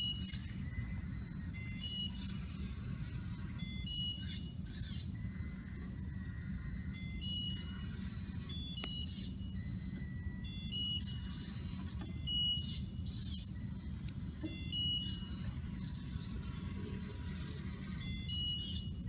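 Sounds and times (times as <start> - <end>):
high-pitched electronic whirs: 0.0 - 19.0
low motor hum: 0.0 - 19.0.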